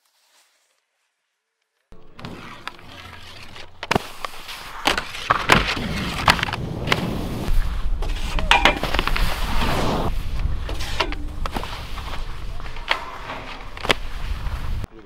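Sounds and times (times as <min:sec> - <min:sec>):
skis scraping over snow: 0:00.0 - 0:01.1, 0:02.0 - 0:14.9
skis sliding on metal rail: 0:02.0 - 0:14.9.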